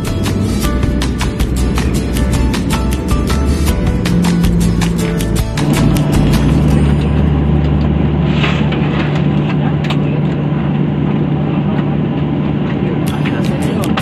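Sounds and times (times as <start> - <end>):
constant low hum: 0.0 - 14.0
jet engine cabin rumble: 0.0 - 14.0.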